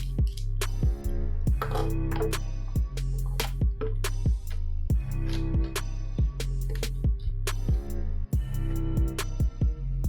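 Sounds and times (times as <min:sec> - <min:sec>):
deep sustained bass line: 0:00.0 - 0:10.0
kick drum and snare beat: 0:00.2 - 0:01.8, 0:02.8 - 0:09.8.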